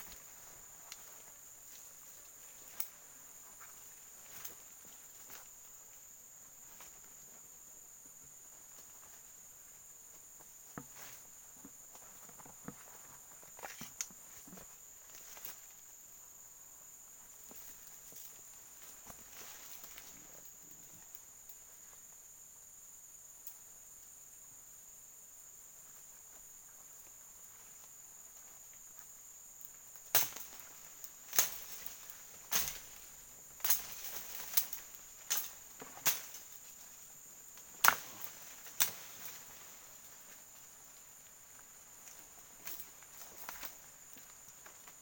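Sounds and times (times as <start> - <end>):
high insect drone: 0.0 - 45.0.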